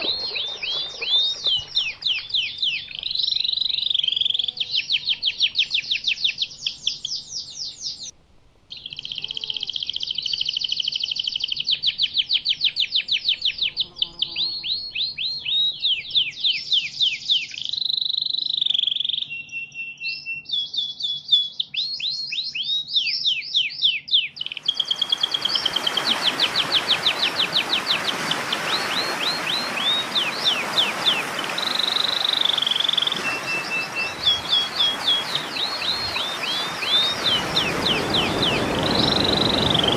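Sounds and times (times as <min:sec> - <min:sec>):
bird song trills: 0:00.0 - 0:08.1, 0:08.7 - 0:39.9.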